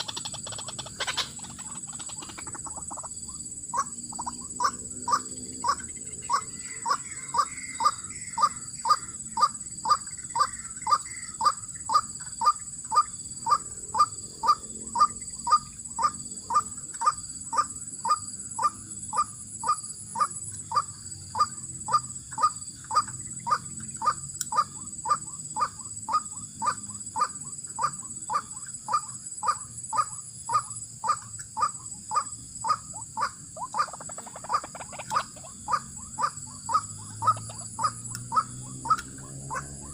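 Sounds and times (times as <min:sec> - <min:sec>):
waterhen calls: 0:00.0 - 0:03.1, 0:03.7 - 0:39.9.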